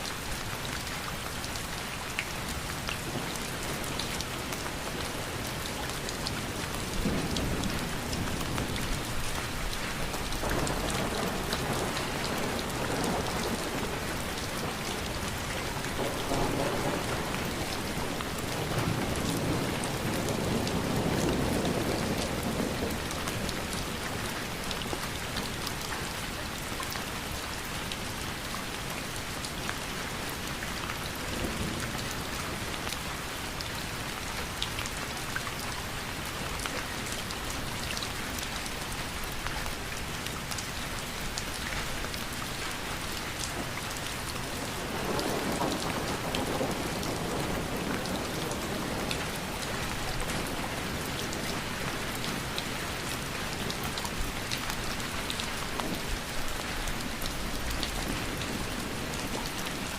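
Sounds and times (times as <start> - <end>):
rain drops ticking on a surface: 0.0 - 59.9.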